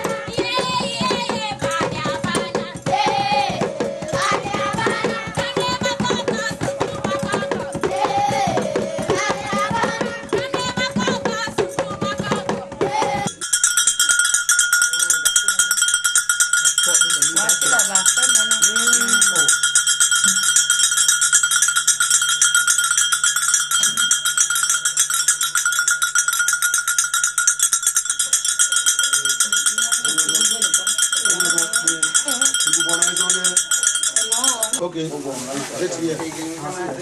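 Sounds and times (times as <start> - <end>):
metal bell ringing rapidly: 0.0 - 34.8.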